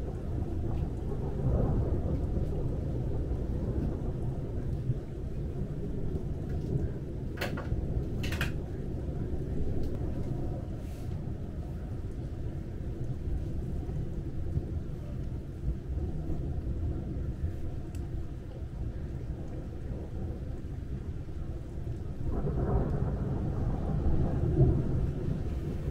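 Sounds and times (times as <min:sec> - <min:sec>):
thunderstorm rumble through window: 0:00.0 - 0:25.9.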